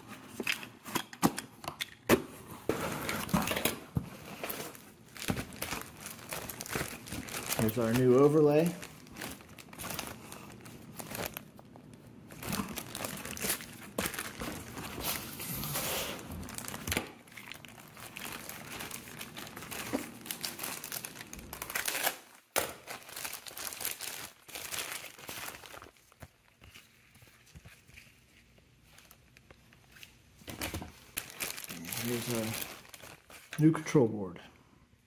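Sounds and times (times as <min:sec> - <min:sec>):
plastic bag crinkling: 0:03.2 - 0:33.8.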